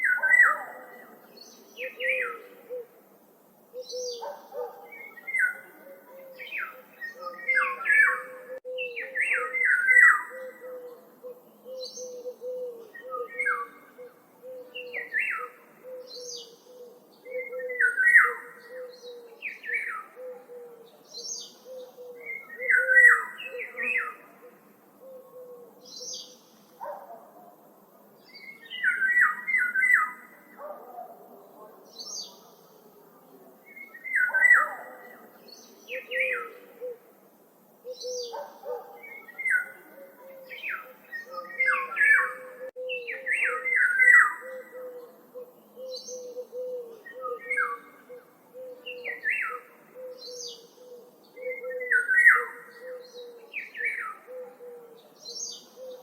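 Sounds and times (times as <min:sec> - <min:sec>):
warbled bird song: 0:00.0 - 0:03.0, 0:03.6 - 0:27.5, 0:28.1 - 0:37.1, 0:37.8 - 0:56.0.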